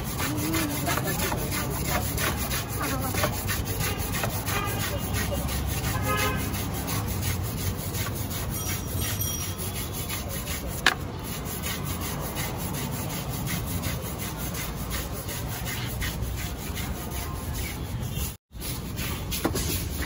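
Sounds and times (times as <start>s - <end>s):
brush scrubbing a tyre: 0.0s - 20.0s.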